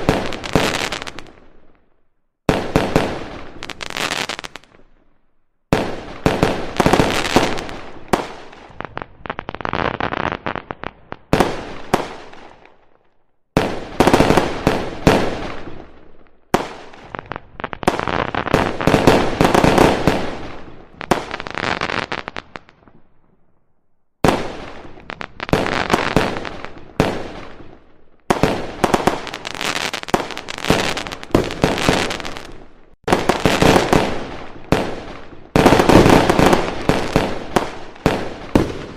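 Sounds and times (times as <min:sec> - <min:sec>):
fireworks bangs and crackling: 0:00.0 - 0:23.5, 0:24.2 - 0:38.9.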